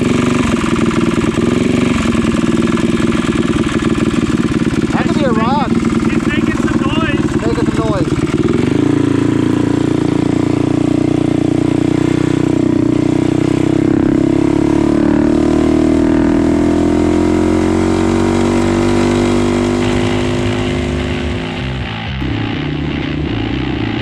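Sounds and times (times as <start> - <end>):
mini bike engine at high revs: 0.0 - 22.0.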